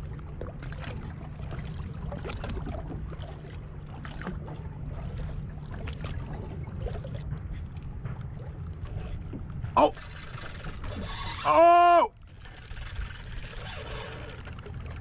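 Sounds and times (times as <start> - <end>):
low rumble of drifting boat: 0.0 - 15.0.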